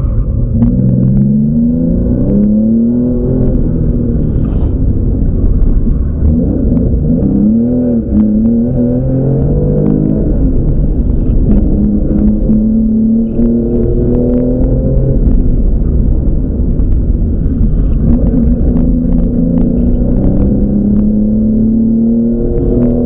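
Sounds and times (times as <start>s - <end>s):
car engine revving through gears: 0.0s - 23.0s.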